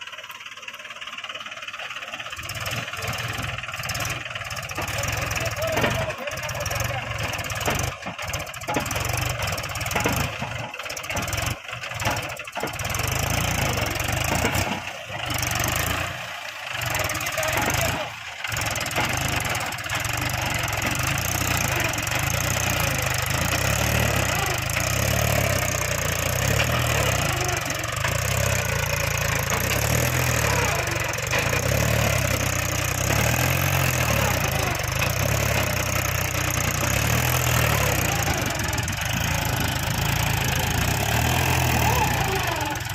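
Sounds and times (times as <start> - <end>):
tractor diesel engine under load: 0.0 - 42.9.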